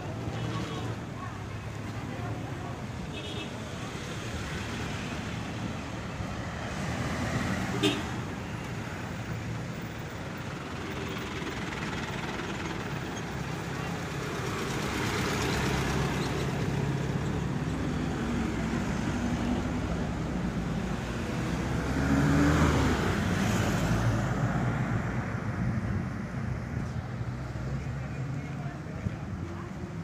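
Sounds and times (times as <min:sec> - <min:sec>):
truck passing: 0:03.8 - 0:30.0
van passing: 0:04.2 - 0:30.0.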